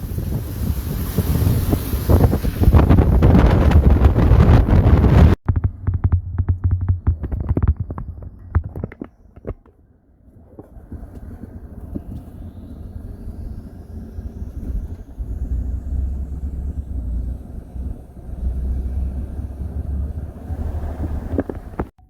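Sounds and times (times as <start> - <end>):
vehicle rumbling: 0.0 - 22.0.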